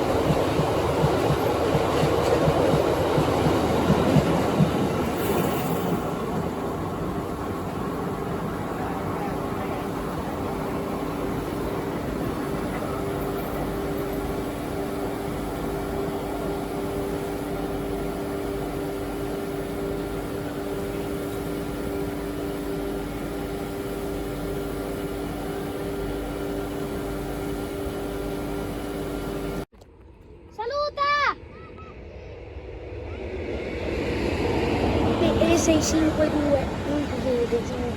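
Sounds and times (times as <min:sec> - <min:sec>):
freight train rumbling past: 0:00.0 - 0:29.6, 0:30.7 - 0:37.9.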